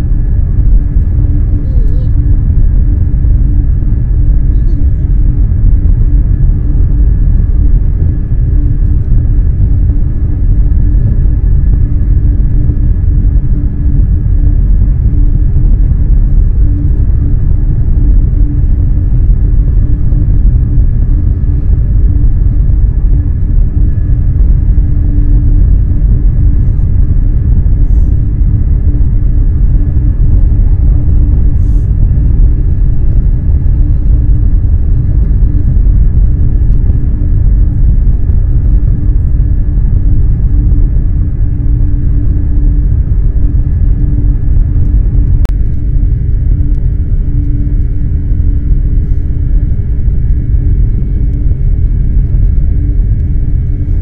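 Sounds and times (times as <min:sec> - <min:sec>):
constant hum: 0:00.0 - 0:54.0
electric train rumble: 0:00.0 - 0:54.0.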